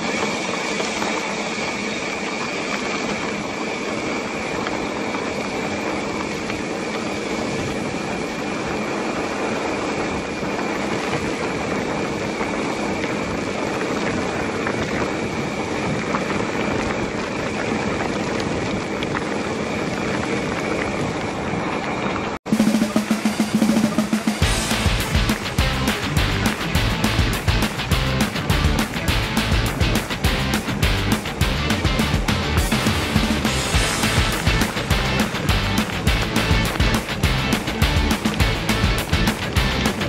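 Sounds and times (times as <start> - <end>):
bike rattling: 0.0 - 22.4, 24.4 - 40.0
bike tyres on gravel: 0.0 - 22.4, 24.4 - 40.0.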